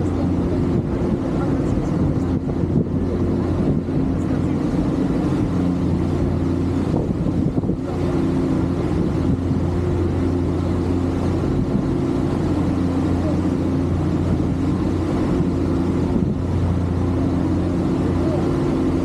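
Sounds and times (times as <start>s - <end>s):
ferry engines droning: 0.0s - 19.0s
wind buffeting microphone: 0.0s - 19.0s.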